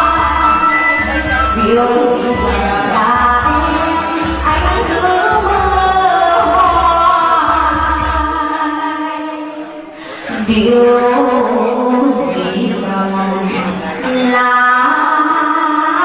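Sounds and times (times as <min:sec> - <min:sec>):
backing track music: 0:00.0 - 0:16.0
woman singing into a microphone: 0:00.0 - 0:16.0.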